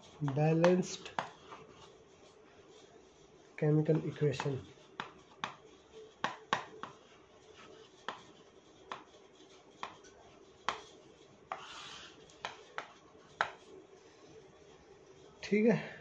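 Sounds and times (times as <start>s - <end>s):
chalk scraping on chalkboard: 0.0s - 15.6s
chalk tapping and scratching: 0.0s - 15.6s.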